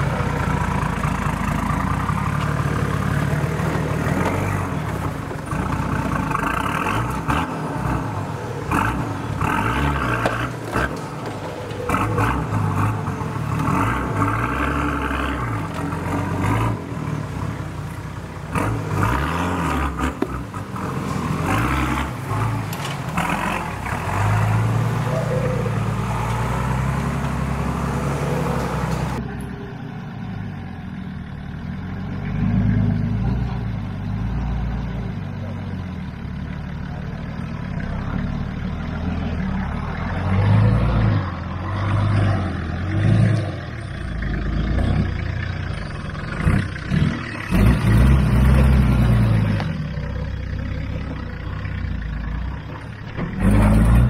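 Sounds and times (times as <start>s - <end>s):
vehicle engine revving under load: 0.0s - 29.4s, 31.0s - 54.0s.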